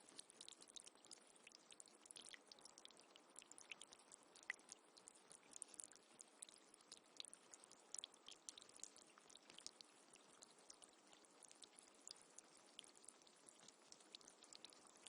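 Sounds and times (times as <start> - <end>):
soft hiss: 0.0 - 15.0
water trickling and dripping: 0.0 - 15.0.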